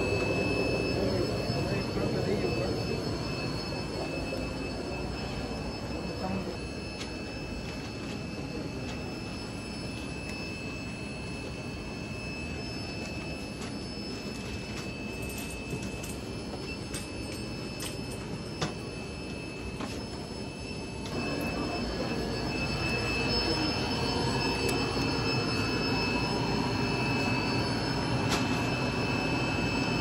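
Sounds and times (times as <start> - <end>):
thin high whine: 0.0 - 30.0.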